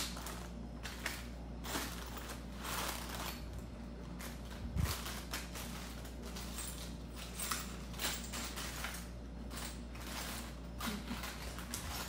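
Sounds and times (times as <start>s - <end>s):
handling rustles and light clicks: 0.0s - 12.0s
steady low hum: 0.0s - 12.0s.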